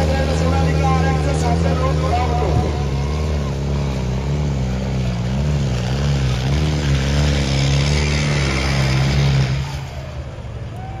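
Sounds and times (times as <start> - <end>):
crowd noise: 0.0 - 11.0
diesel tractor engine droning: 0.0 - 11.0.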